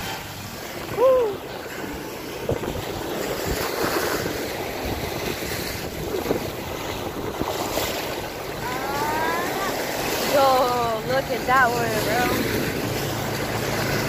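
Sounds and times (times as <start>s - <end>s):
surf washing over sand: 0.0s - 14.0s
wind buffeting microphone: 0.0s - 14.0s.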